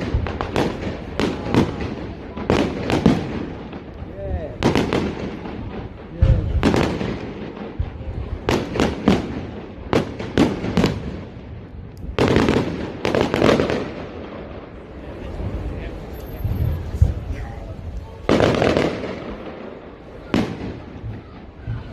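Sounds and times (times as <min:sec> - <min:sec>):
firework bangs: 0:00.0 - 0:21.9.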